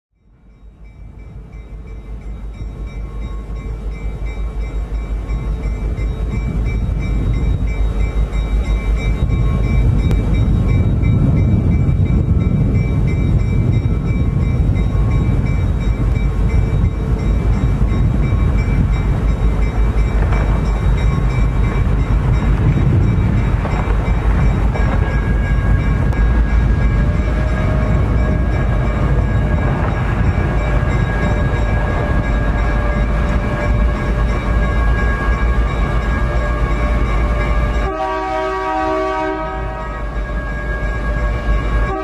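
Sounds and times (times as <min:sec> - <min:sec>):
diesel locomotive engine rumble: 0:00.1 - 0:42.0.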